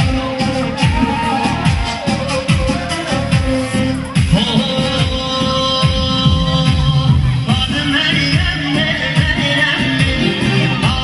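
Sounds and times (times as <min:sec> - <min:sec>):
drum beat: 0:00.0 - 0:11.0.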